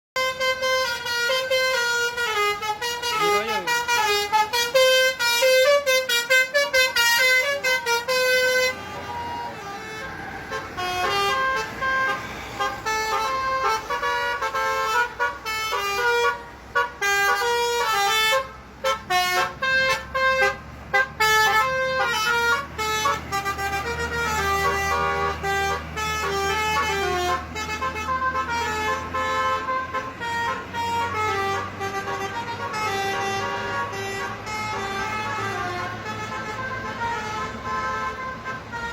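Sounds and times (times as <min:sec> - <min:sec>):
bus engine running low: 0:00.2 - 0:38.9
bus musical horn playing a tune: 0:00.2 - 0:38.9.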